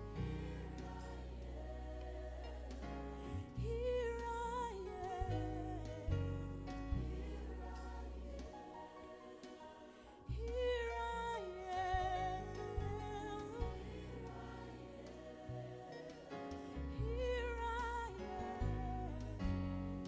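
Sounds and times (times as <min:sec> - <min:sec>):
steady bass notes: 0:00.0 - 0:08.6, 0:10.3 - 0:15.9, 0:16.5 - 0:20.0.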